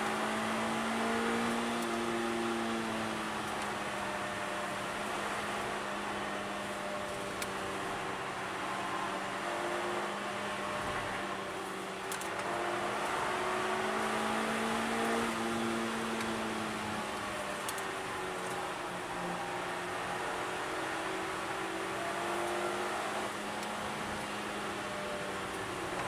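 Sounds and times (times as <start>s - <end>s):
car engine under load: 0.0s - 26.0s
road and wind noise: 0.0s - 26.0s.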